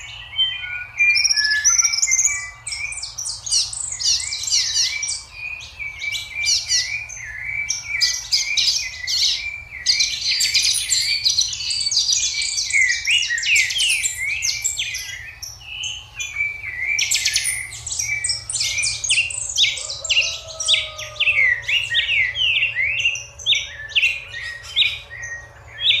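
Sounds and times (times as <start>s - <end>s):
chicks peeping and chirping: 0.0s - 26.0s.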